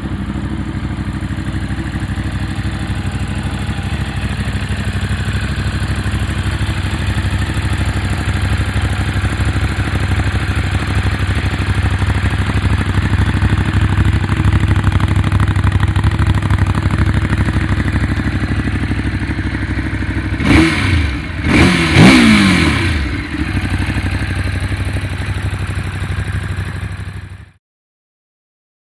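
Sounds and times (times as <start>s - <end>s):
motorcycle engine revving: 0.0s - 27.5s
motorcycle engine idling: 0.0s - 27.6s.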